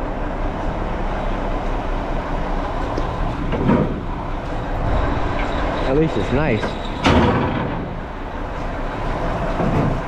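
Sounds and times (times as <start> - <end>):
garbage truck running: 0.0 - 10.0.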